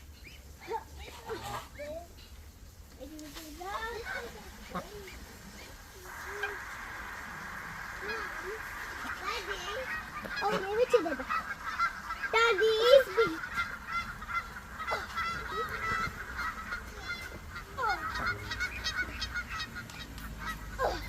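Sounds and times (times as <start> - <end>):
geese honking: 3.7 - 21.0.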